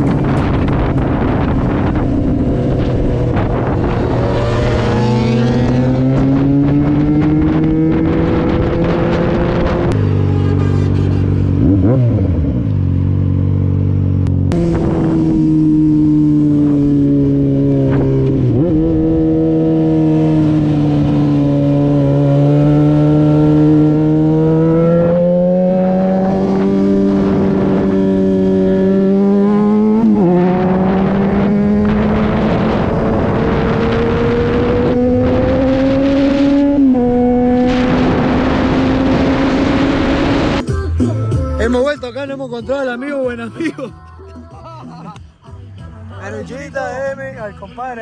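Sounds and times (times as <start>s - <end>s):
motorcycle engine running: 0.0s - 40.8s.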